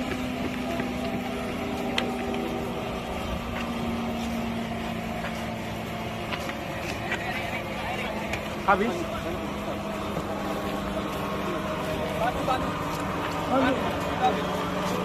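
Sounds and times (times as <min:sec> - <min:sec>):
helicopter turbine hum: 0:00.0 - 0:15.0.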